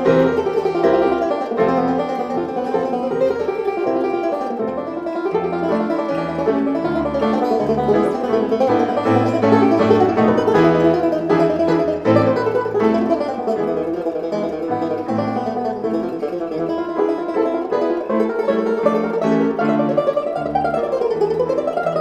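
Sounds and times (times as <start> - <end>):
banjo: 0.0 - 22.0
bluegrass plucked string music: 0.0 - 22.0.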